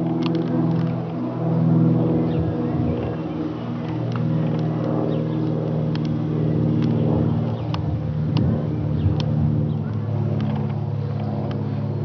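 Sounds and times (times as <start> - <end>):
propeller aircraft droning overhead: 0.0 - 12.0.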